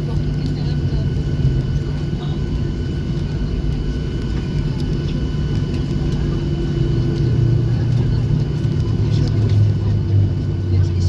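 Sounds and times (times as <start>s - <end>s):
airplane cabin engine rumble: 0.0s - 11.0s
faint engine whine: 0.0s - 11.0s.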